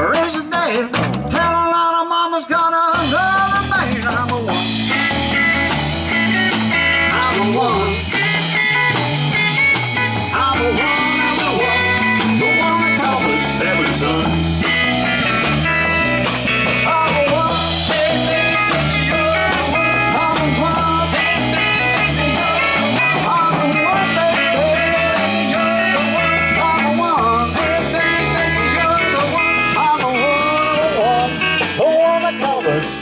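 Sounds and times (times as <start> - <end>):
drums steady beat: 0.0 - 1.8, 2.9 - 33.0
bass guitar: 0.0 - 1.9, 2.9 - 33.0
electric guitar lead: 3.0 - 33.0.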